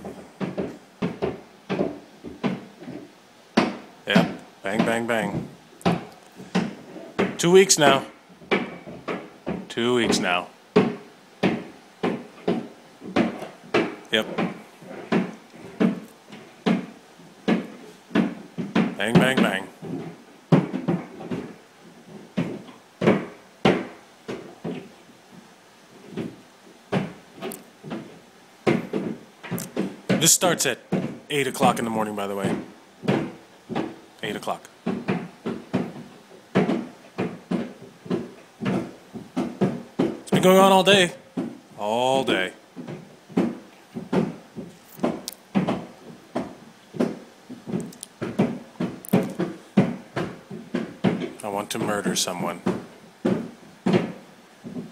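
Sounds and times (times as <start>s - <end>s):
hammers knocking through ceiling: 0.0s - 25.0s, 26.1s - 54.9s.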